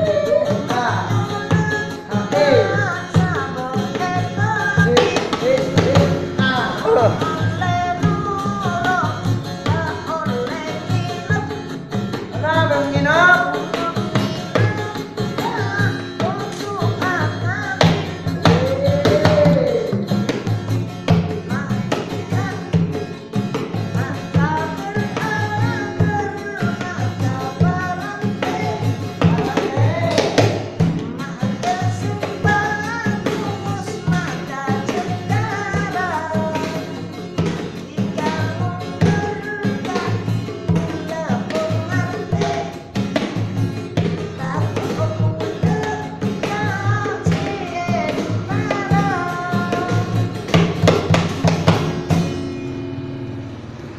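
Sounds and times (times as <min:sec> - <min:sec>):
person singing: 0:00.0 - 0:51.8
instrumental backing with steady beat: 0:00.0 - 0:53.9.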